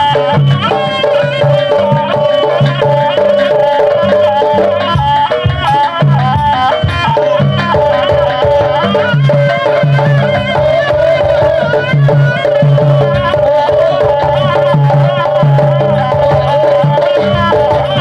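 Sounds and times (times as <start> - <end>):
wavering high melody: 0.0 - 18.0.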